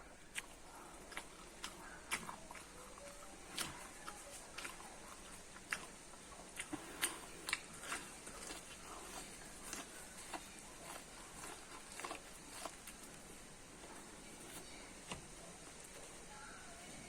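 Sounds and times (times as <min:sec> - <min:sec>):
person chewing corn: 0:00.0 - 0:16.5.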